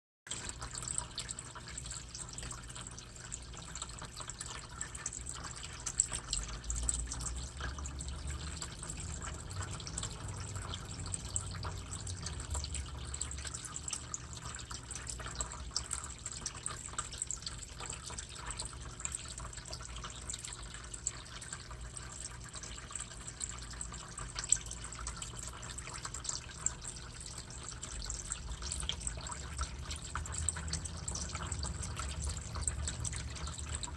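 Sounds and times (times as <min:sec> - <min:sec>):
water dripping: 0:00.3 - 0:33.9.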